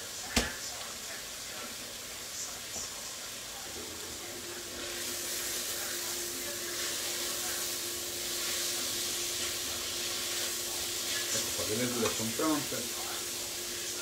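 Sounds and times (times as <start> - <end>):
vegetables sizzling in a pot: 0.0 - 14.0.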